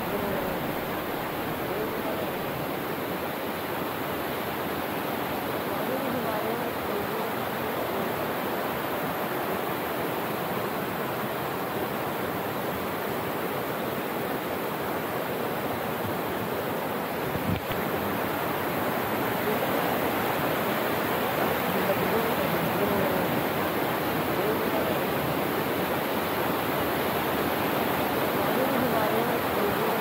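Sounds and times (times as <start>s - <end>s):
mountain stream rushing: 0.0s - 30.0s
small waterfall over boulders: 0.0s - 30.0s.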